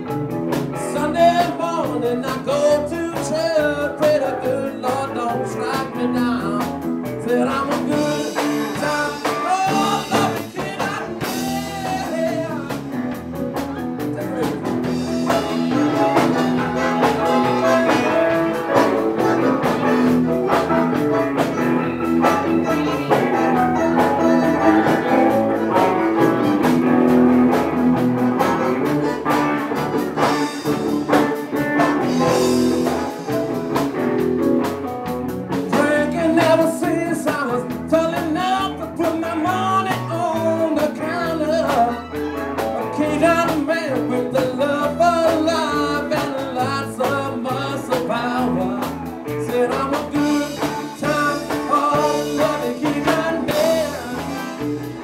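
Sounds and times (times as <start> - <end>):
blues-rock band playing: 0.0 - 55.0
guitar: 0.0 - 55.0
steady drum beat: 0.0 - 55.0.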